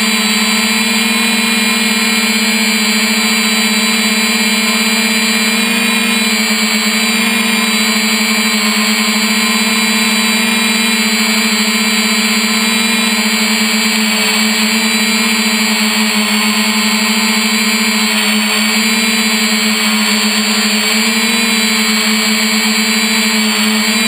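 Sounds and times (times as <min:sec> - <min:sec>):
drone motors humming: 0:00.0 - 0:24.0.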